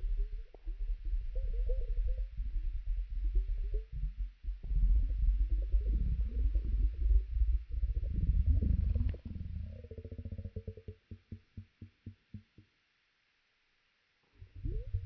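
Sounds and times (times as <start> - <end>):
deep rumble: 0.0 - 11.6, 14.4 - 15.0
slowed stomach gurgles and moans: 0.0 - 12.6, 14.4 - 15.0.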